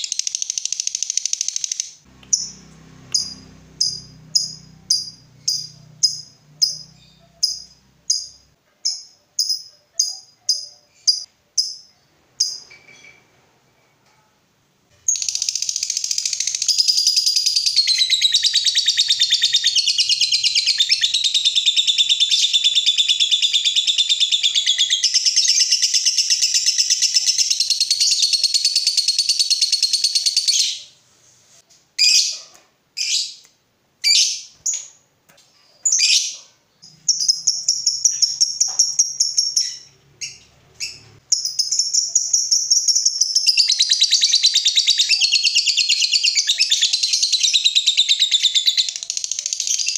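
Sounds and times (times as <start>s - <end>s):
lovebird chattering trill: 0.0s - 13.0s, 15.1s - 30.8s, 35.9s - 49.9s.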